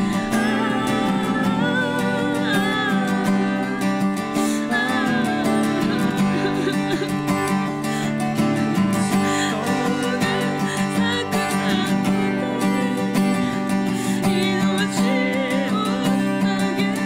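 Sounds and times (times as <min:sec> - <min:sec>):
acoustic guitar strumming: 0:00.0 - 0:17.0
person singing worship song: 0:00.0 - 0:17.0.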